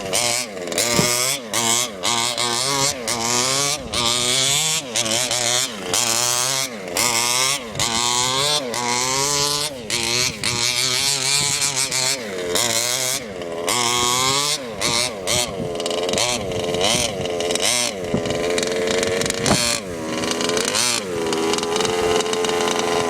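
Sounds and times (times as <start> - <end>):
two-stroke engine revving: 0.0 - 23.0.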